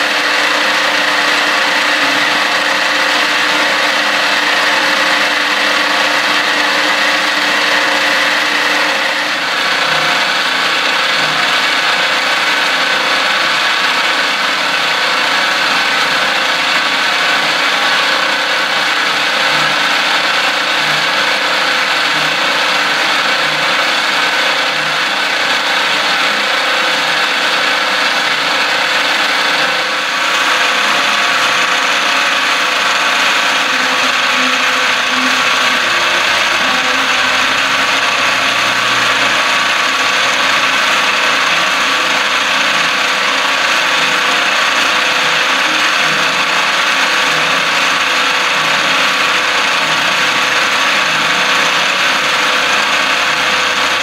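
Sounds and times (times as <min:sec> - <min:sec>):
metal cutting noise: 0:00.0 - 0:54.0
milling spindle whine: 0:00.0 - 0:54.0.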